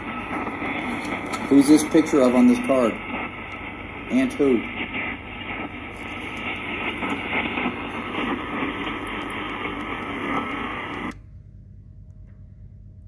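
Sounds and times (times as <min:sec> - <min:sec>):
hissing crackling static: 0:00.0 - 0:11.2
faint hum: 0:00.0 - 0:13.0.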